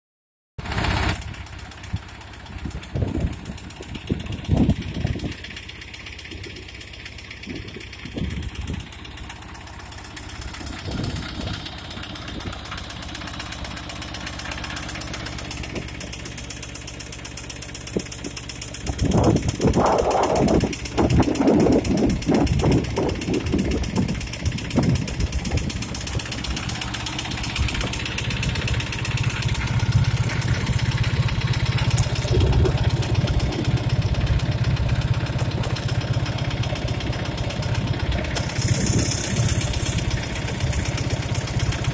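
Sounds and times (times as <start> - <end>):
diesel engine running with knock: 0.6 - 41.9.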